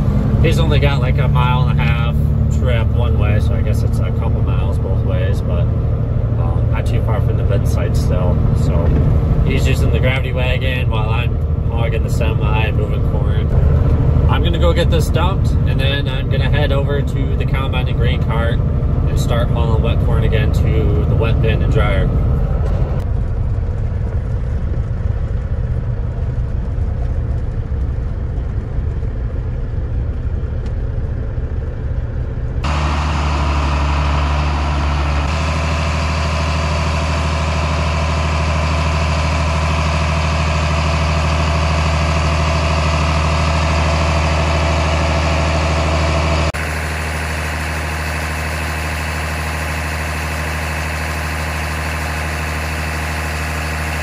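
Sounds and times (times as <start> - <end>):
heavy diesel engine drone: 0.0 - 54.0.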